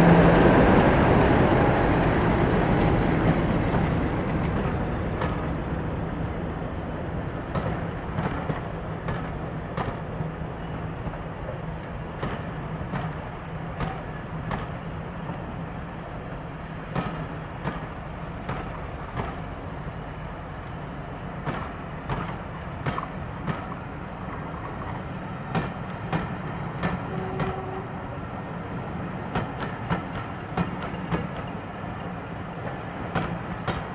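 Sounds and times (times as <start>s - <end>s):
locomotive engine drone: 0.0s - 33.9s
train wheels clicking over rail joints: 0.0s - 33.9s.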